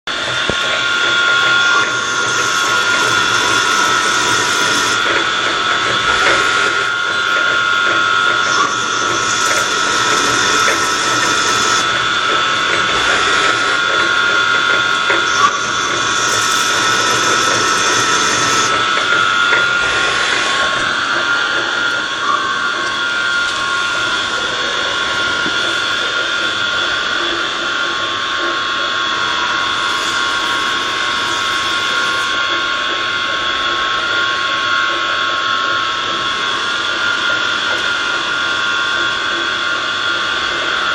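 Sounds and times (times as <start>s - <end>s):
lathe machine whine: 0.1s - 40.9s
metal cutting noise: 0.1s - 40.9s.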